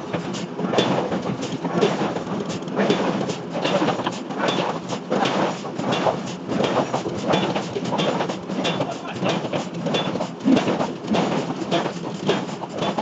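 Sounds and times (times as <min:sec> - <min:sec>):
continuous clattering din: 0:00.0 - 0:13.0
rapid metallic knocks: 0:00.1 - 0:13.0.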